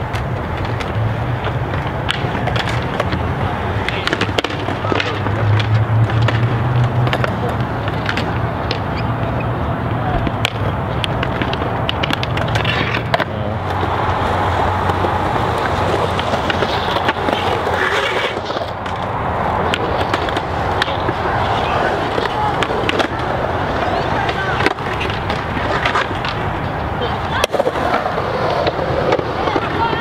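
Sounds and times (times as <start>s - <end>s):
skateboard clacks: 0.0s - 30.0s
skateboard wheels rolling on concrete: 0.0s - 30.0s.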